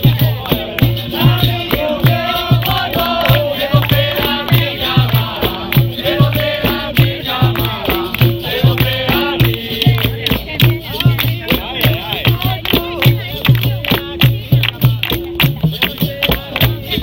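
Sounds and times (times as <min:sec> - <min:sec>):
group singing in chorus: 0:00.0 - 0:17.0
shaken rattle: 0:00.0 - 0:17.0
steady drum beat: 0:00.0 - 0:17.0.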